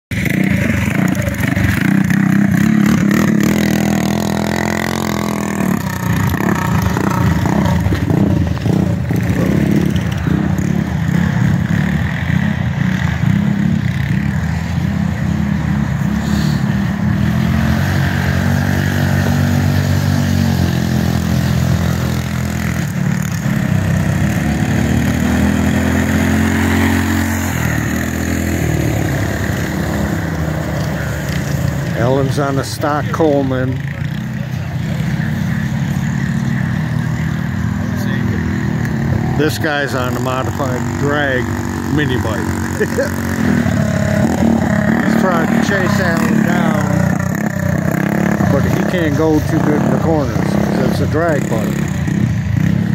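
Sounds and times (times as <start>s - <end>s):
mini bike engines revving: 0.1s - 52.9s.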